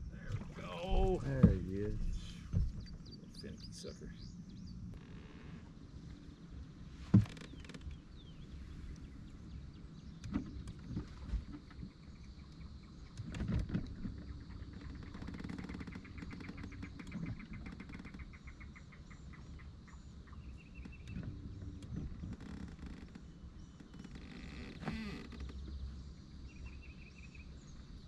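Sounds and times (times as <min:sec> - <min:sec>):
faint bird chirping: 0:00.0 - 0:13.4, 0:14.1 - 0:28.0.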